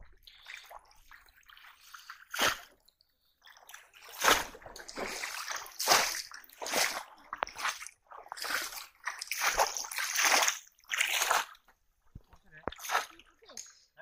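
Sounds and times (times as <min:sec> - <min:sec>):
water splashing: 0:00.0 - 0:13.8.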